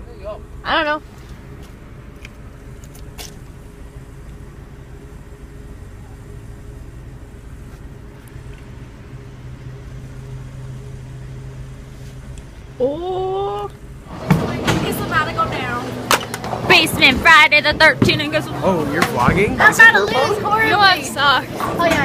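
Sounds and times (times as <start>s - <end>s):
car idling: 0.0s - 22.0s.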